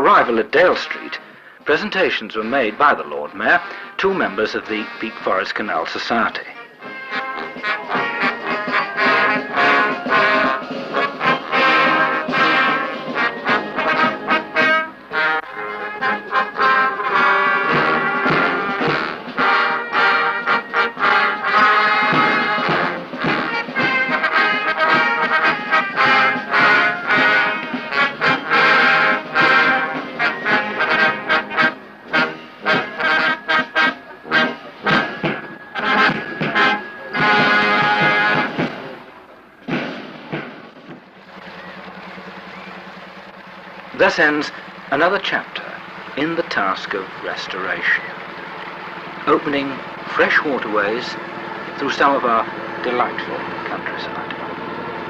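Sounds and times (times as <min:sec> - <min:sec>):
brass march music: 0:00.0 - 0:55.0.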